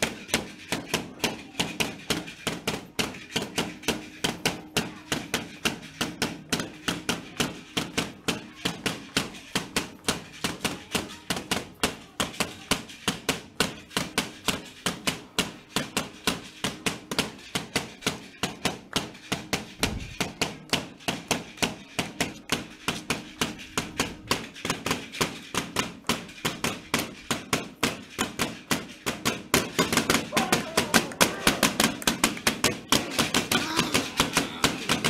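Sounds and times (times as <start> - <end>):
sharp rhythmic clicking strikes: 0.0 - 35.0.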